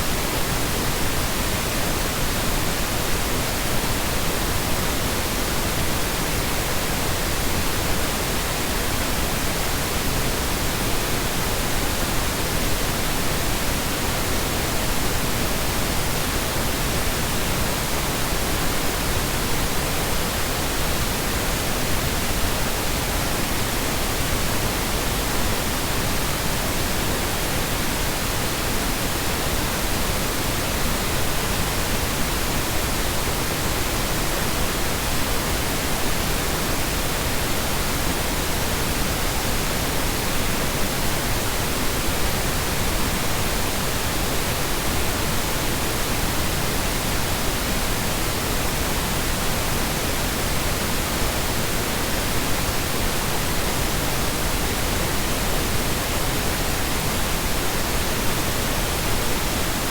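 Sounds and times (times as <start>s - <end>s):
steady noise hiss: 0.0s - 59.9s.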